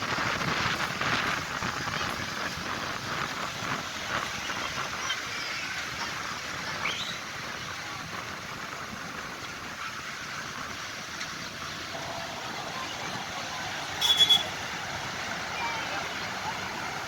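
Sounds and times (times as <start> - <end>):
tractor engines rumbling: 0.0 - 17.0.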